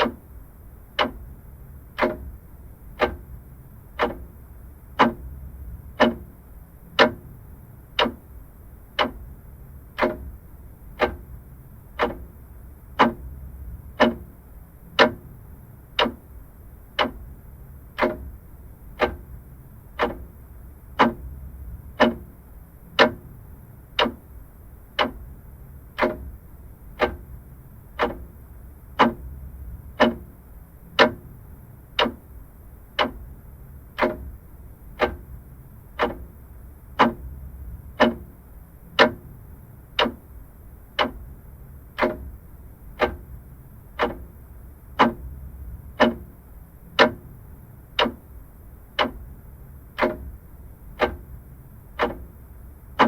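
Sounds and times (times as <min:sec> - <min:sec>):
clock ticking: 0:00.0 - 0:53.0
faint low hum: 0:00.0 - 0:53.0.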